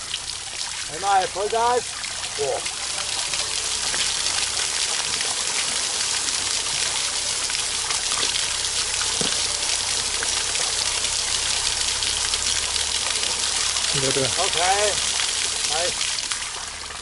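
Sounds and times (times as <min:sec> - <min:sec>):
water gushing and splashing on wood: 0:00.0 - 0:17.0.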